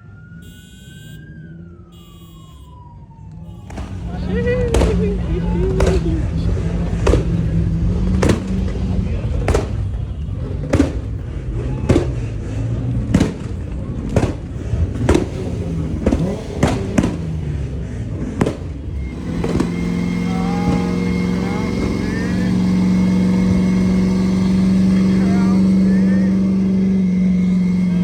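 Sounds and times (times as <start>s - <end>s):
car engine running: 0.0s - 28.0s
engines running: 0.0s - 28.0s
loud sharp bangs: 3.5s - 28.0s.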